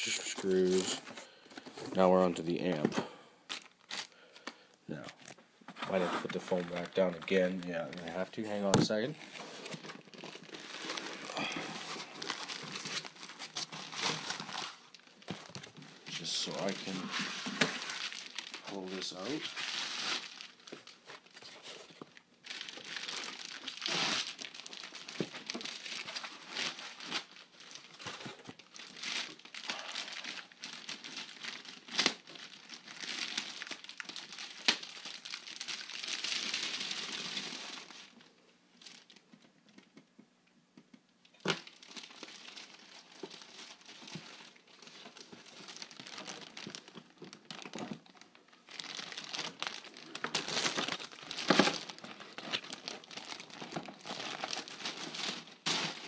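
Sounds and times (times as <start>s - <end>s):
box packaging crinkling: 0.0s - 2.9s, 5.1s - 38.2s, 41.4s - 56.0s.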